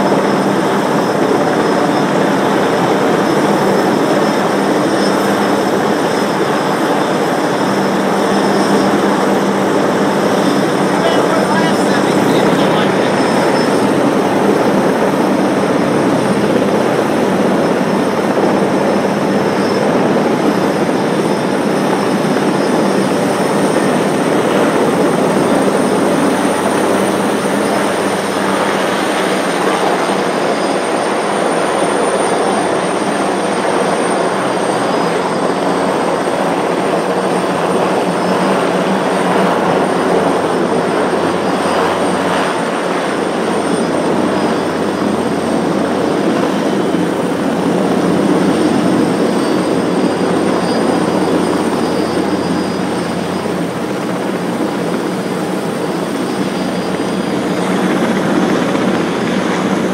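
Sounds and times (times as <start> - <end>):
helicopter hovering overhead: 0.0 - 59.9
thin high whine: 0.0 - 59.9.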